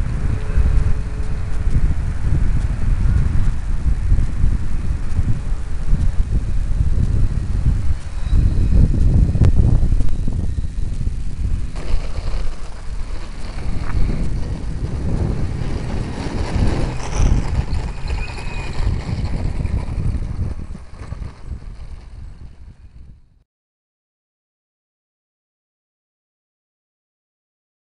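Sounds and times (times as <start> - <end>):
wind buffeting microphone: 0.0 - 23.3.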